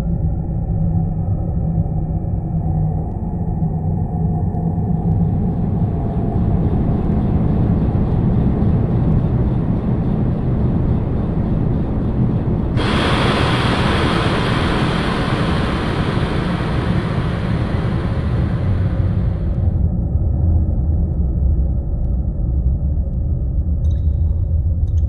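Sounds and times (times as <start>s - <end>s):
low steady rumble: 3.6s - 25.0s.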